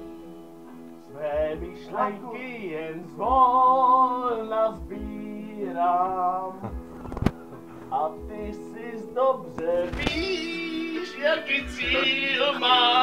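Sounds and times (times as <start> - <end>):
karaoke backing track: 0.0 - 13.0
man singing: 1.1 - 6.8, 7.9 - 13.0.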